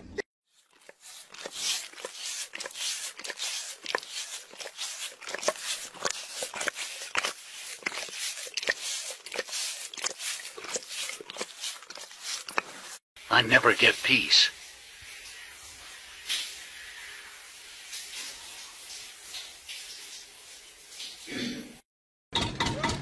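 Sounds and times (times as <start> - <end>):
cat licking hair: 0.6 - 20.5.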